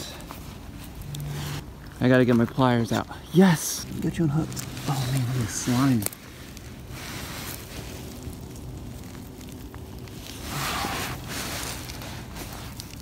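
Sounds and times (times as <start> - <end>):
rain and wind hiss: 0.0 - 13.0
rustle: 0.0 - 13.0.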